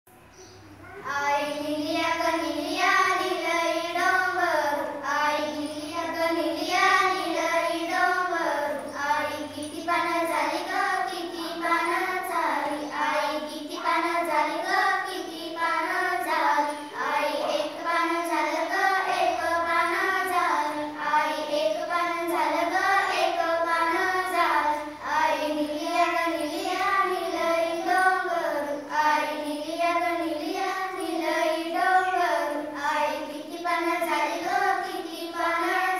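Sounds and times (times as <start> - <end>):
girls singing in unison: 1.0 - 35.9.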